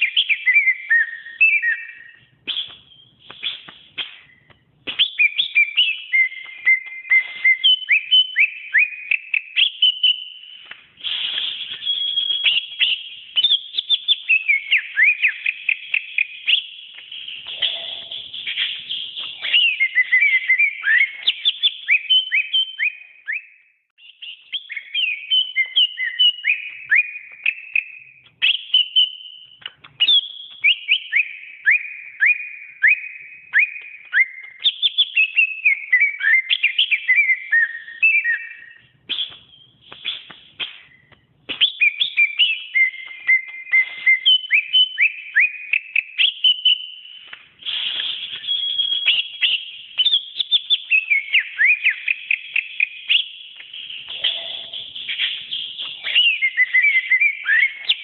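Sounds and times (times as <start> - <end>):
bird whistling song: 0.0 - 58.0.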